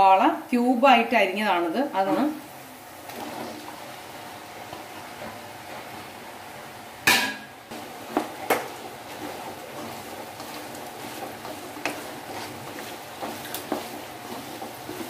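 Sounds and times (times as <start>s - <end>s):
onions frying in oil: 0.0s - 15.0s.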